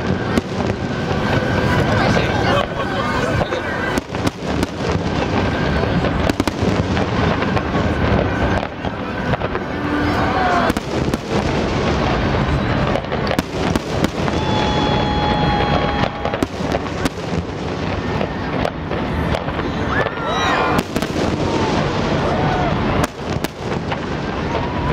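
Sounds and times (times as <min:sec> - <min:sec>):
firework whistling: 0:00.0 - 0:24.9
fireworks bursting and crackling: 0:00.0 - 0:24.9
sharp firework bangs: 0:00.0 - 0:24.9.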